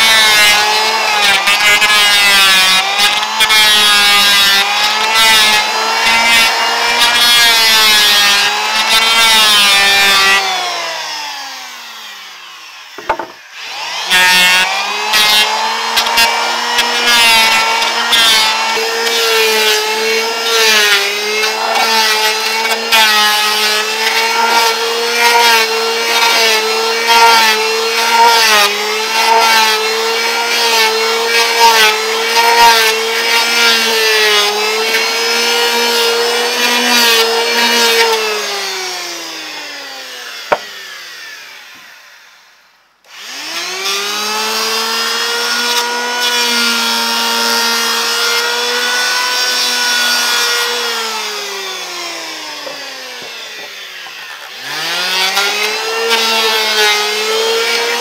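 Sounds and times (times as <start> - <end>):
electric planer shaving wood: 0.0 - 58.0.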